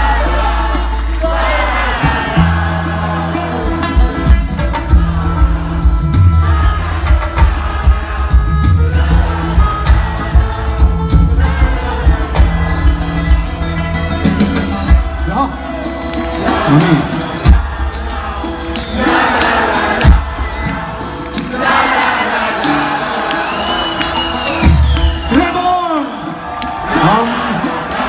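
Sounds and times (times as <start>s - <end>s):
crowd whooping: 0.0s - 28.0s
live band music: 0.0s - 28.0s.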